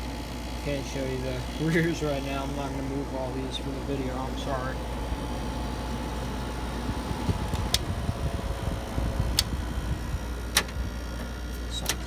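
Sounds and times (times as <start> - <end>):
window air conditioner humming: 0.0 - 12.0.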